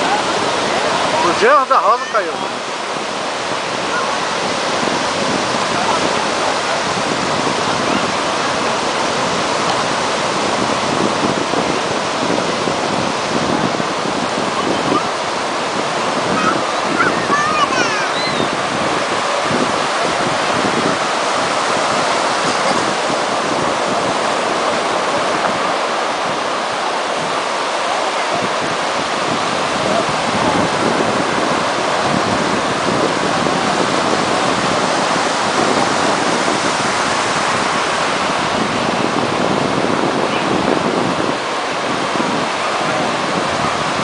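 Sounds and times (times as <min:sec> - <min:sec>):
sea water rushing: 0:00.0 - 0:44.0
wind buffeting microphone: 0:00.0 - 0:44.0.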